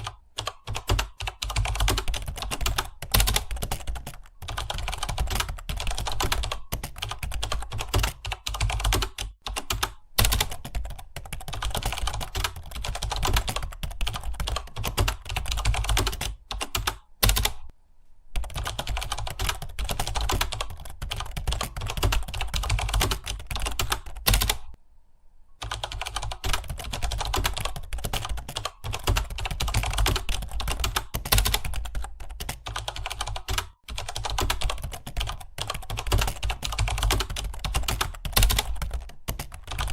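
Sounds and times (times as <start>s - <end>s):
rapid keyboard typing: 0.0s - 17.7s, 18.4s - 24.8s, 25.6s - 39.9s.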